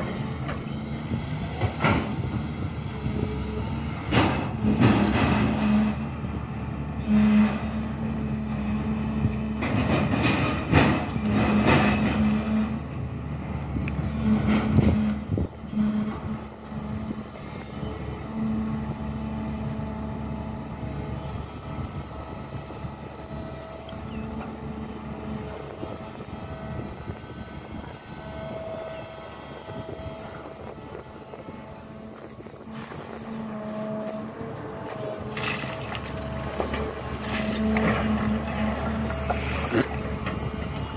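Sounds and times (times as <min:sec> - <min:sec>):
excavator diesel engine droning: 0:00.0 - 0:40.9.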